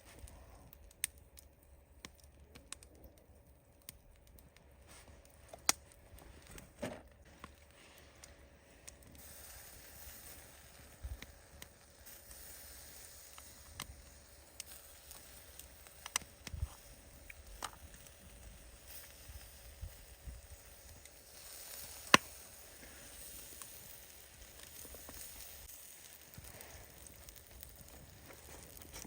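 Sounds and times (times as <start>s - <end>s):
fire crackling and popping: 0.0s - 29.0s
soft steady fire hiss: 0.0s - 29.0s.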